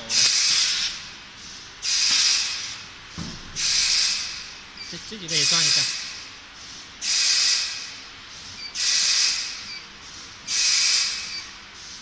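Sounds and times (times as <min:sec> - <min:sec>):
compressed air hissing: 0:00.0 - 0:03.0, 0:03.6 - 0:04.6, 0:05.3 - 0:12.0.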